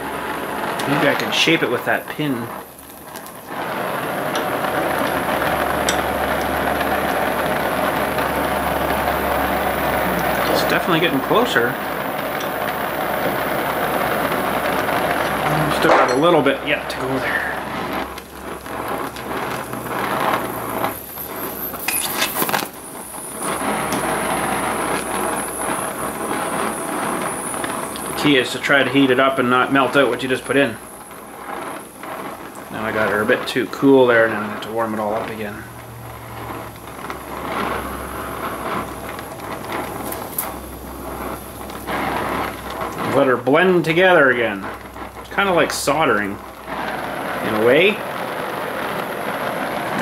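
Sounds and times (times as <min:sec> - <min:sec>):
torch flame hissing: 0:00.0 - 0:50.0.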